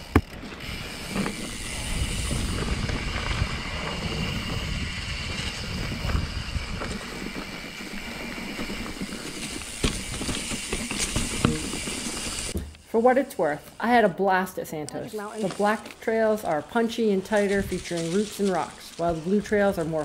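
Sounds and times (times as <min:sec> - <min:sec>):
bike tyre and wind rumble: 0:00.0 - 0:13.0, 0:15.3 - 0:20.0.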